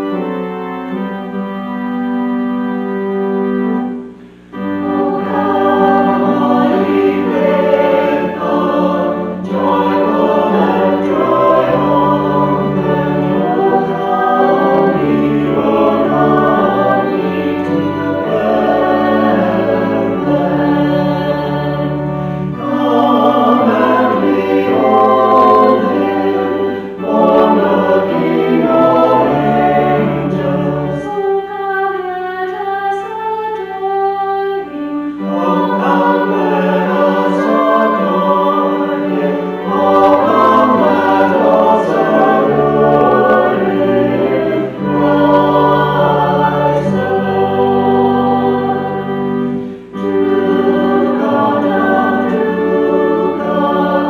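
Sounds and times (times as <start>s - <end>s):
choir singing a hymn: 0.0s - 54.0s
organ chords: 0.0s - 54.0s.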